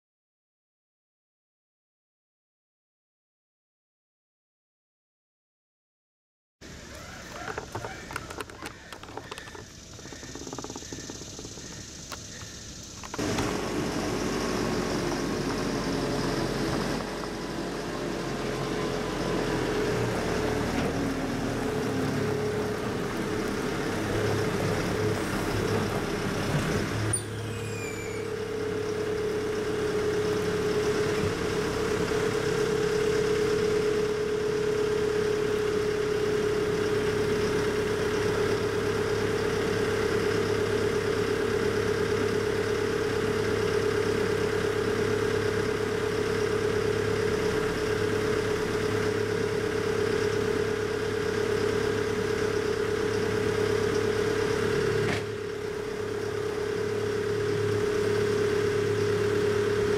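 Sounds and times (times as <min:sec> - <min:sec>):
diesel engine whine: 0:06.6 - 0:59.9.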